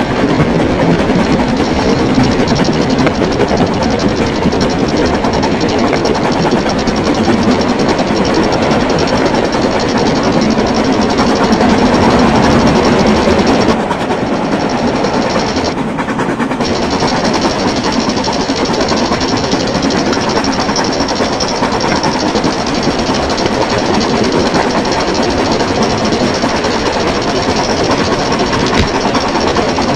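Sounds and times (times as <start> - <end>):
model locomotive wheels clattering on rails: 0.0 - 29.9.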